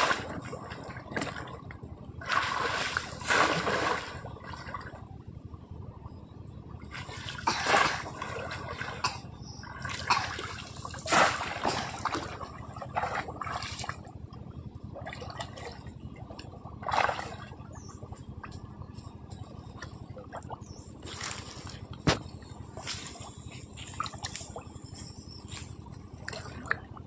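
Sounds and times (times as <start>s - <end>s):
shallow water splashing: 0.0s - 5.1s, 6.8s - 27.0s.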